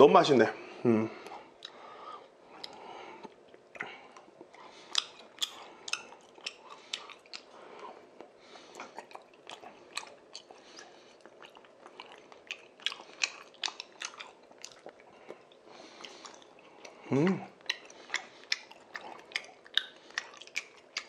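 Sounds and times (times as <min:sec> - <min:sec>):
chewing with wet mouth clicks: 0:01.2 - 0:01.9, 0:02.5 - 0:21.0.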